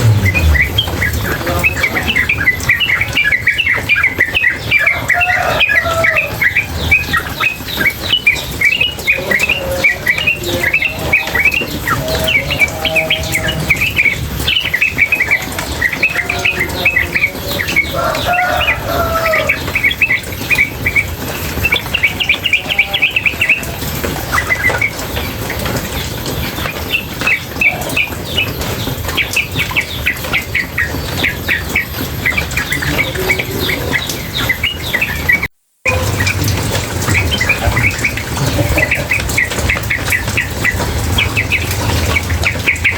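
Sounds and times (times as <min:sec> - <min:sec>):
bird chattering chirps: 0:00.0 - 0:42.9
running water: 0:00.0 - 0:42.9.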